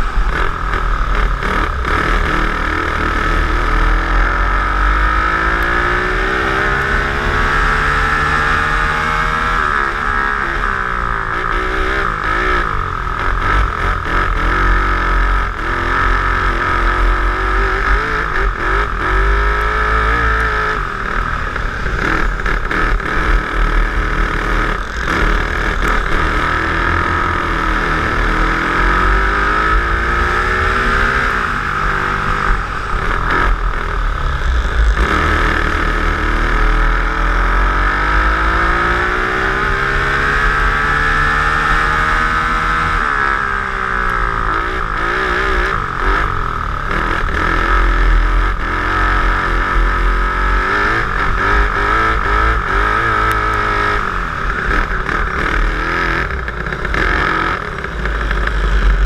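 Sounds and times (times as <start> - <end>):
dirt kart engine revving: 0.0 - 59.0.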